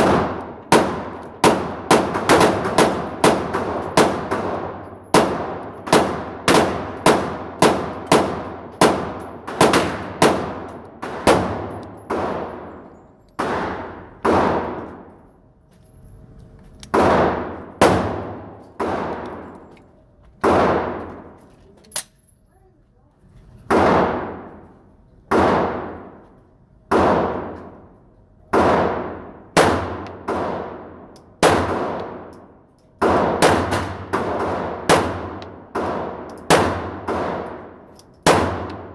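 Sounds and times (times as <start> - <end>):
pistol shots echoing indoors: 0.0 - 15.3, 16.9 - 19.6, 23.7 - 24.7, 25.3 - 38.9.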